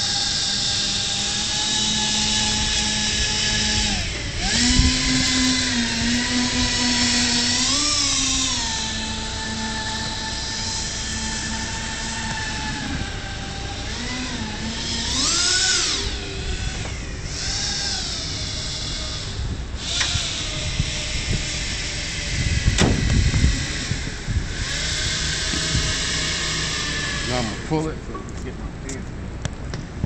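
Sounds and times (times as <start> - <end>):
rotary tool cutting wood: 0.0 - 28.4.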